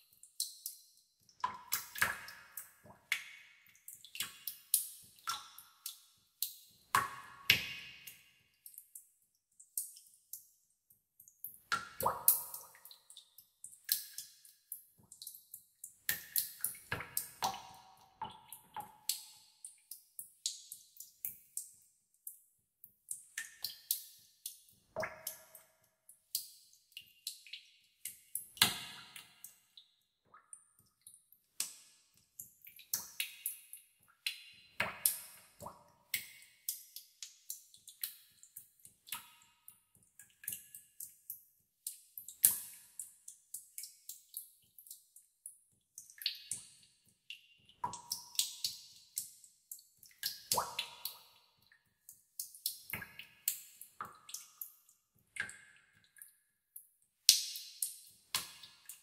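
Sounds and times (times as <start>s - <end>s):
water drops plinking in cave pool: 0.0s - 59.0s.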